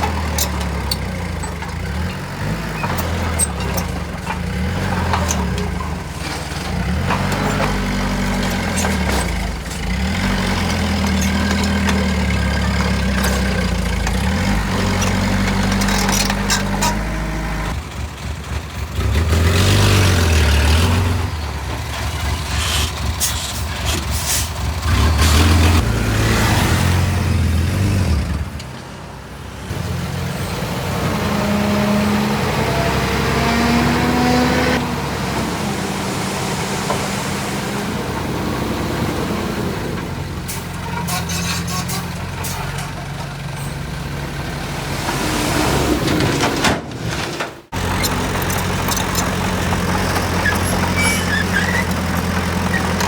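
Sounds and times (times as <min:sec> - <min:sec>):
diesel machinery engines revving: 0:00.0 - 0:53.0.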